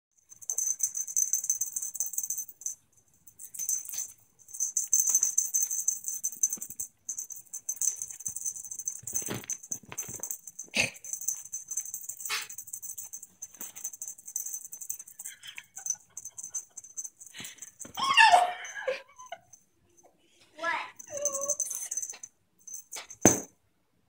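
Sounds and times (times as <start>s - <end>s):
feather toy jingling rattle: 0.2s - 19.6s, 20.6s - 23.5s.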